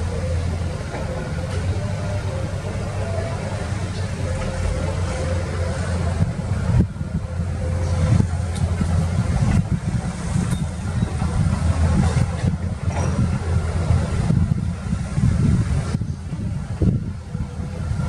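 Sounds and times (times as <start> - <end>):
excavator diesel engines running: 0.0 - 18.0.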